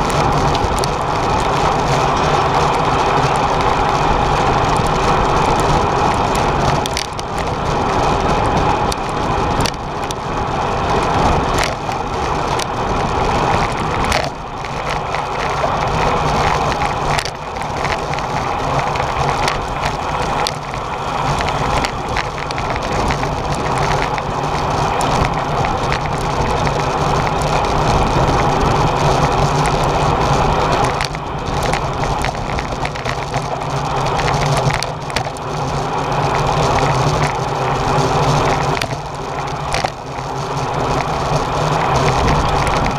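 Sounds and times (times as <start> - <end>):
bicycle tyre noise on tarmac: 0.0 - 42.9
bike rattles and clicks: 0.0 - 42.9.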